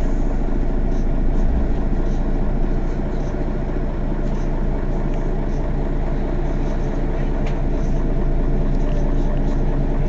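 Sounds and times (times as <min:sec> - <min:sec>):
bus engine idling: 0:00.0 - 0:10.0.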